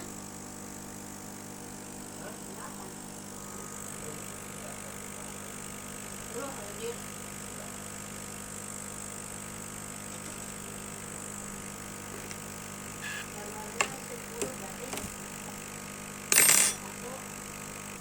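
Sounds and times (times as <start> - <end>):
laser cutter hum and whine: 0.0 - 16.3.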